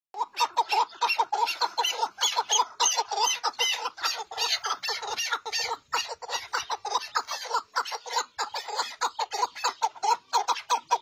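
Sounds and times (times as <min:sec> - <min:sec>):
partridge clucking call: 0:00.2 - 0:11.0.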